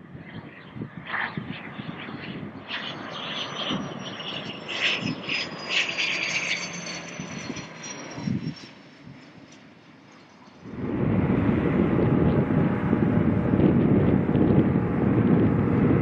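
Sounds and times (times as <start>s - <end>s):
airplane engine passing by: 0.0s - 16.0s.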